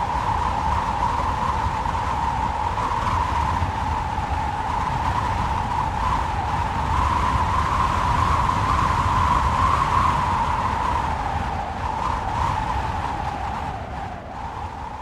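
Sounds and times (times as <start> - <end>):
strong wind howling: 0.0 - 15.0.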